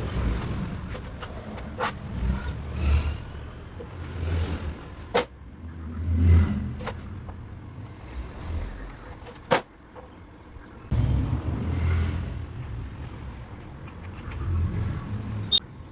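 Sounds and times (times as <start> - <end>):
uneven low rumbling: 0.0 - 9.2, 10.9 - 15.6.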